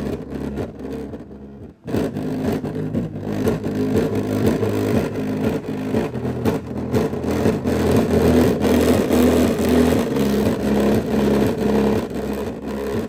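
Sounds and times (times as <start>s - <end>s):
loud bass notes from speaker: 0.0s - 13.0s
speaker cabinet rattling and buzzing: 0.0s - 13.0s.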